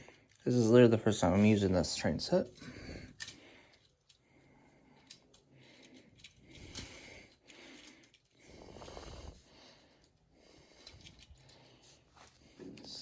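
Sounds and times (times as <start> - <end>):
soft breathing close to microphone: 2.5 - 13.0.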